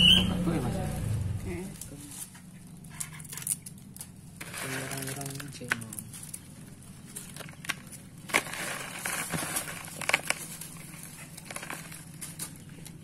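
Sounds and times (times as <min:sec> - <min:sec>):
grasshoppers rustling in plastic bowl: 0:00.8 - 0:13.0.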